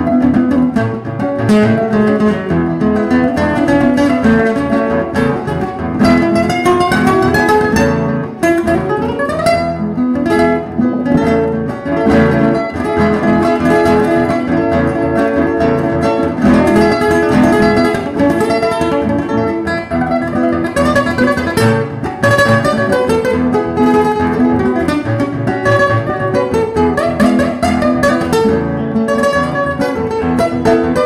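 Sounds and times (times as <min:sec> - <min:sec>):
acoustic guitar duet: 0:00.0 - 0:31.0.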